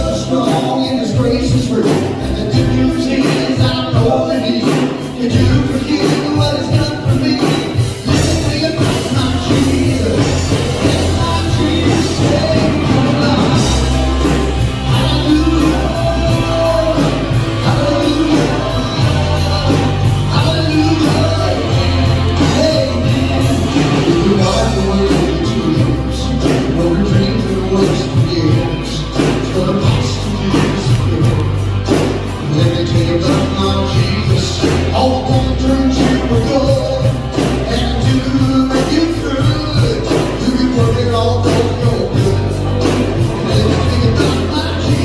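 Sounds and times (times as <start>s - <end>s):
bass guitar: 0.0s - 45.0s
drums: 0.0s - 45.0s
live band playing worship music: 0.0s - 45.0s
steady cymbal beat: 0.0s - 45.0s.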